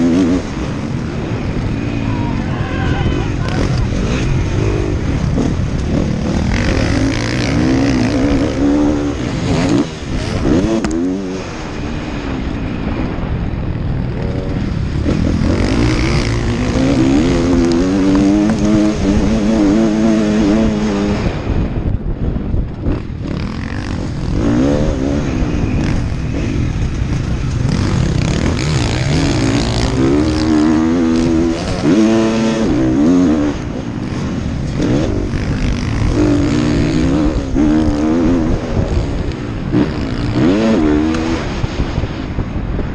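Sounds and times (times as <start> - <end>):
motocross bike engine revving: 0.0 - 21.5, 22.8 - 42.0.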